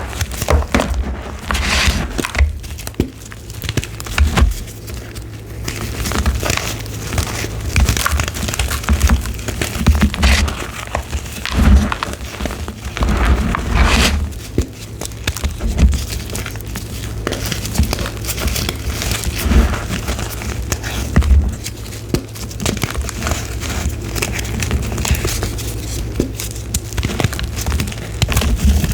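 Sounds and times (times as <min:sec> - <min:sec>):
chalk crunching and crackling: 0:00.0 - 0:28.9.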